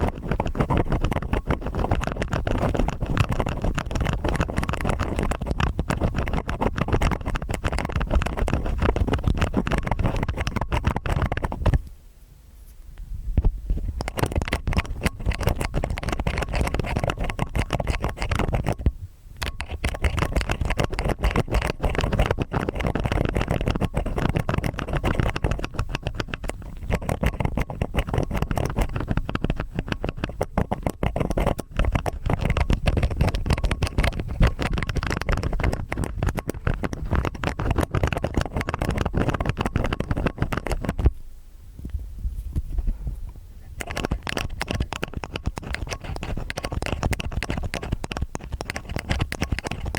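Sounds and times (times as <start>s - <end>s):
ear picks scraping in ears: 0.0s - 11.9s, 12.6s - 41.2s, 41.8s - 49.9s.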